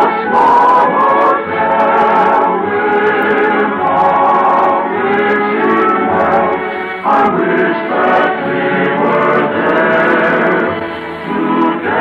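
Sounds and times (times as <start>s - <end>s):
choir singing on old radio: 0.0s - 12.0s.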